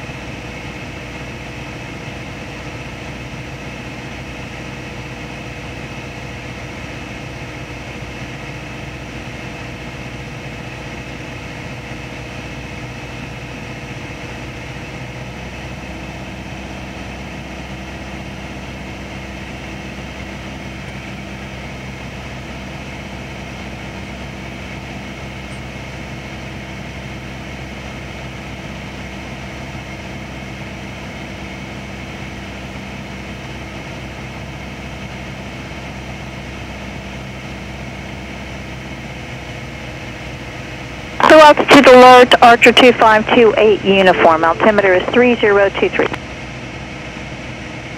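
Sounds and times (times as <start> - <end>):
propeller plane engine droning: 0.0 - 47.9.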